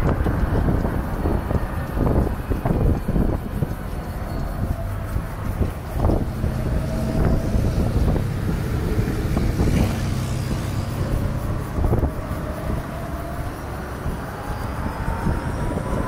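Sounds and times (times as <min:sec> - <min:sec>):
road rumble: 0:00.0 - 0:16.0
wind buffeting microphone: 0:00.0 - 0:16.0.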